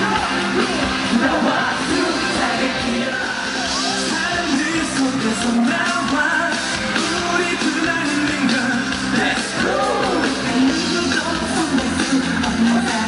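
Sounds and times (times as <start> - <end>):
band playing pop music: 0.0 - 13.0
person singing: 0.0 - 13.0.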